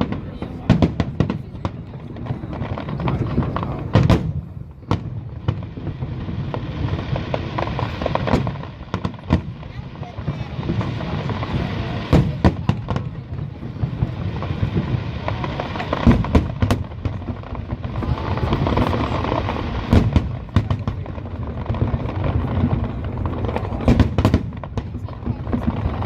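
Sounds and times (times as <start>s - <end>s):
rumble and crackle of fireworks: 0.0s - 26.0s.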